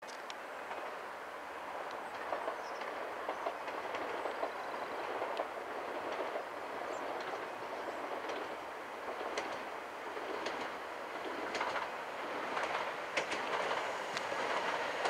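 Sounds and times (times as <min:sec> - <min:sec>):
train rolling rumble: 0:00.1 - 0:15.0
wheels clicking on track: 0:01.8 - 0:15.0.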